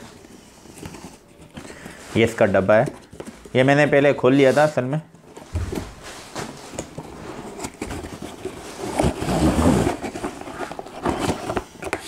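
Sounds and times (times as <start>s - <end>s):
cardboard box handling noise: 0.0s - 3.9s, 5.1s - 12.0s.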